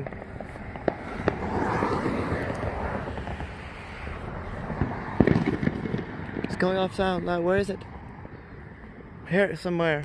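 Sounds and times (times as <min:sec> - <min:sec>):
distant fireworks popping: 0:00.0 - 0:09.0
rushing outdoor background: 0:00.0 - 0:10.0.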